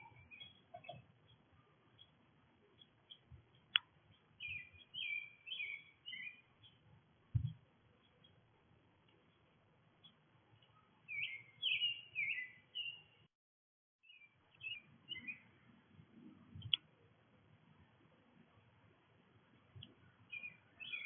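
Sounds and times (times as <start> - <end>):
songbirds chirping: 0.0 - 13.3, 14.0 - 21.0.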